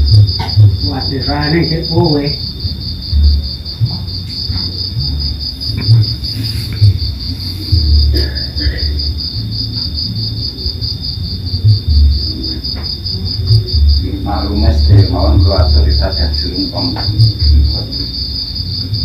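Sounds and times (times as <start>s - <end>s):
crickets chirping: 0.0s - 19.0s
low rumbling bumps: 0.0s - 19.0s.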